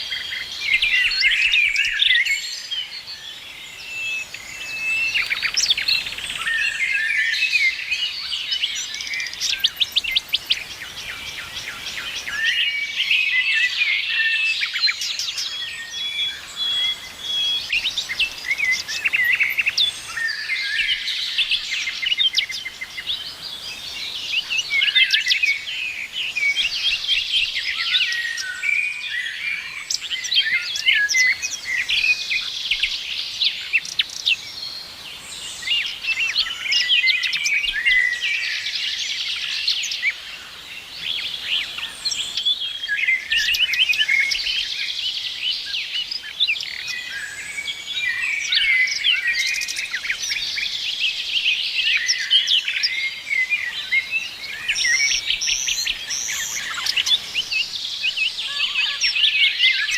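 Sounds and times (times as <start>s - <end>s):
chorus of birds chirping: 0.0s - 59.9s.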